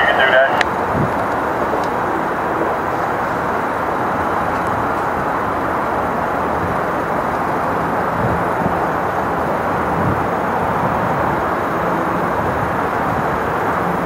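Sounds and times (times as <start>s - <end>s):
electric train hum and rumble: 0.0s - 14.0s.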